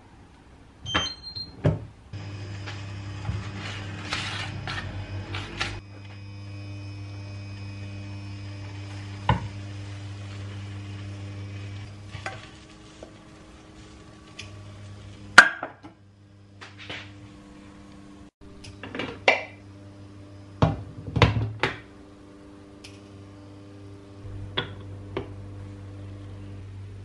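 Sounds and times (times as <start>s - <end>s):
hob electrical hum: 0.0s - 27.0s.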